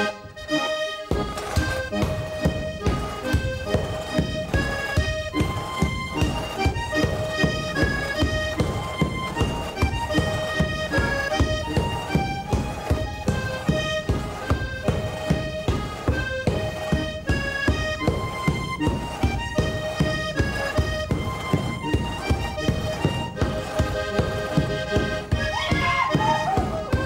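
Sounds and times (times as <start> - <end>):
button accordion folk tune: 0.0 - 27.0
sharp knocking beat: 1.1 - 27.0.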